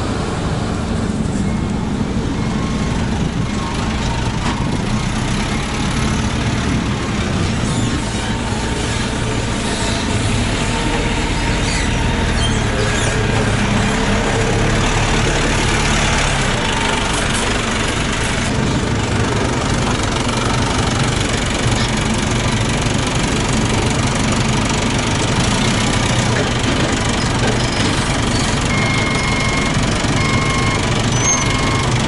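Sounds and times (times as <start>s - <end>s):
heavy engine running: 0.0s - 32.0s.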